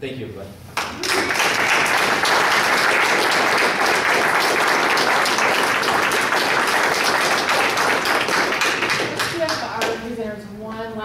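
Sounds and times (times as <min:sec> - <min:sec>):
audience applauding: 0:00.8 - 0:10.0.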